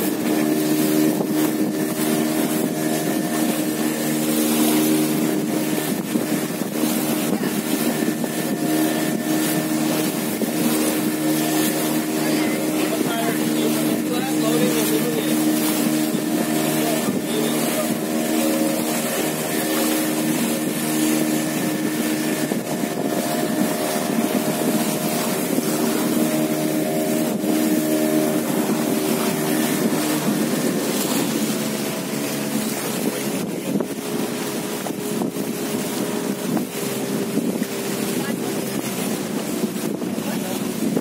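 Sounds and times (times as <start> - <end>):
motorboat engine running: 0.0 - 41.0
water rushing past hull: 0.0 - 41.0
wind buffeting microphone: 0.0 - 41.0.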